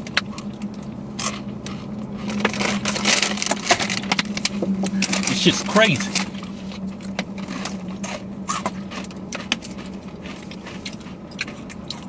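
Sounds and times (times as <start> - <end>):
chips being chewed crunching: 0.0 - 12.0
low hum: 0.0 - 12.0.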